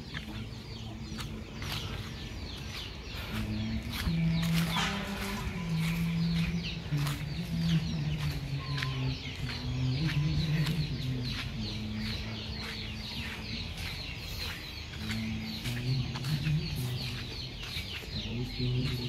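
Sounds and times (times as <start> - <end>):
chickens clucking and peeping: 0.0 - 19.0.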